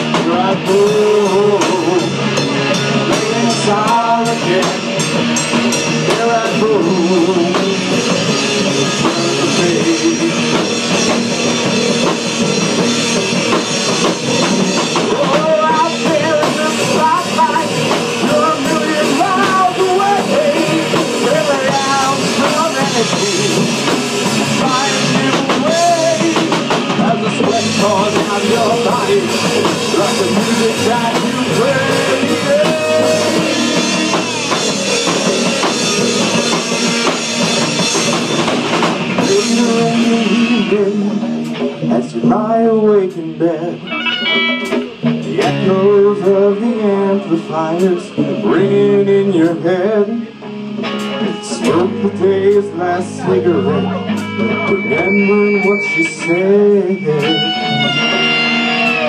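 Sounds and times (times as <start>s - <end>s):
rock band playing instrumental: 0.0s - 59.0s
wavering lead melody: 1.1s - 40.7s, 43.8s - 45.4s, 51.0s - 59.0s.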